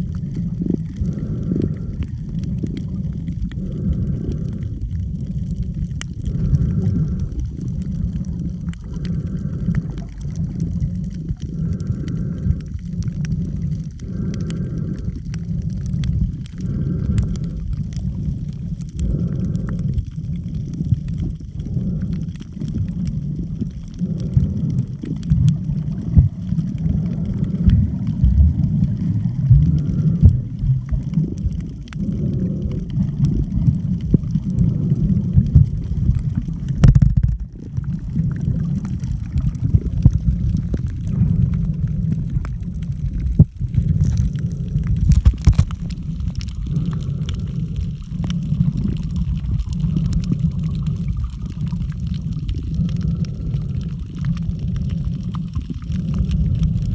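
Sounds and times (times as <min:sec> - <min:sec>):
muffled underwater churning: 0:00.0 - 0:56.9.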